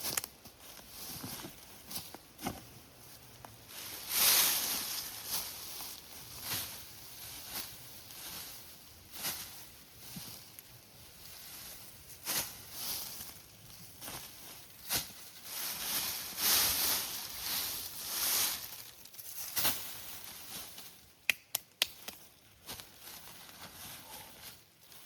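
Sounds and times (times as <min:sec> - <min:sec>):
leaves and undergrowth rustling: 0:00.0 - 0:21.2, 0:21.9 - 0:25.0.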